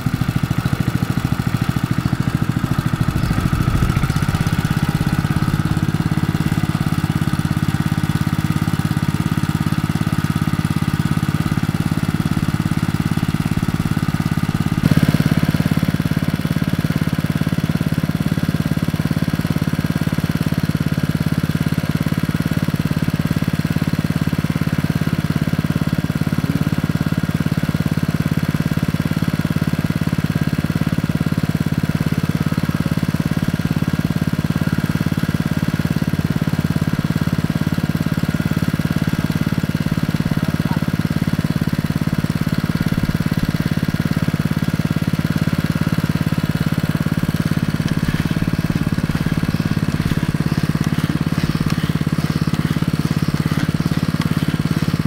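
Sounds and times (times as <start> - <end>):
water pump engine running: 0.0 - 55.0.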